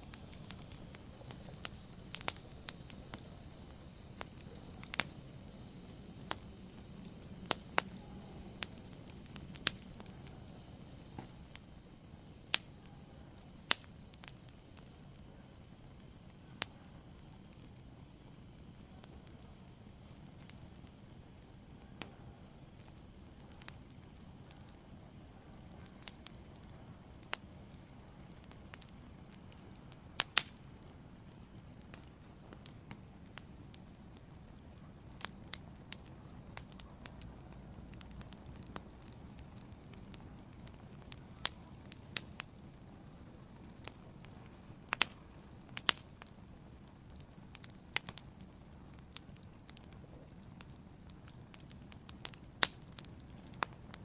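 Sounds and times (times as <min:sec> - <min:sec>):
fire crackling and popping: 0:00.0 - 0:54.0
wood fire hissing: 0:00.0 - 0:54.0.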